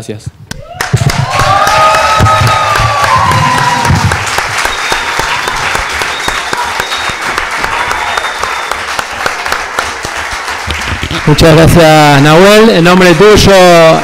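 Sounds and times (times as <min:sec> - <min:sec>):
crowd clapping: 0:00.5 - 0:14.0.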